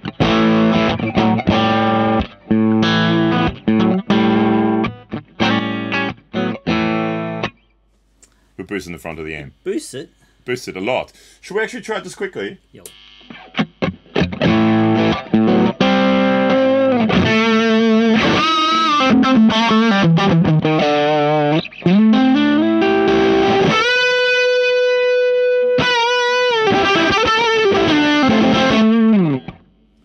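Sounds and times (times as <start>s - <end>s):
distorted electric guitar playing: 0.0s - 7.4s, 12.8s - 29.7s.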